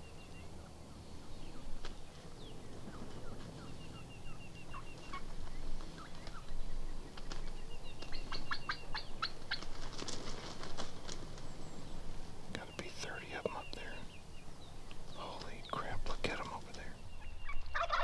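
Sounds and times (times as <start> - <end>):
birds trilling and chirping: 0.0 - 18.0.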